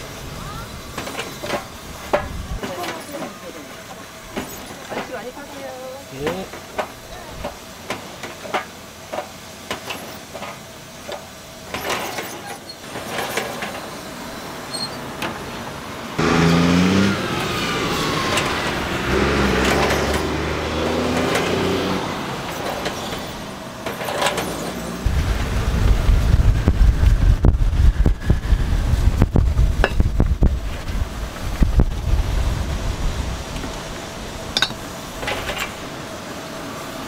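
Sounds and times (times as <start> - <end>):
heavy vehicle engine running: 0.0 - 37.0
high engine whine: 0.0 - 37.0.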